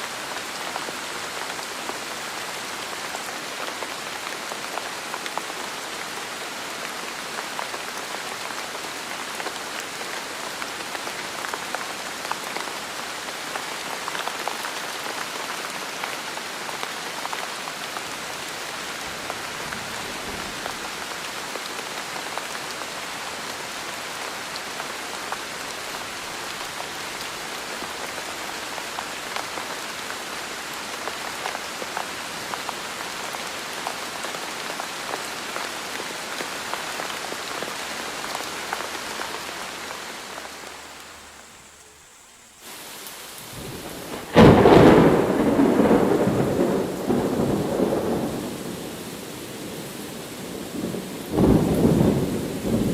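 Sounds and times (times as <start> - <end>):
heavy rain patter: 0.0 - 52.9.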